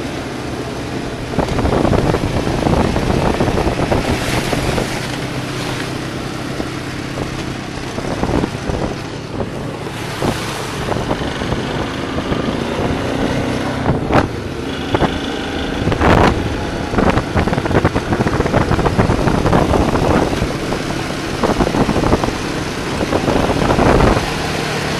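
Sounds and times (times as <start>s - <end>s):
atv engines running: 0.0s - 24.9s
wind buffeting microphone: 0.0s - 24.9s.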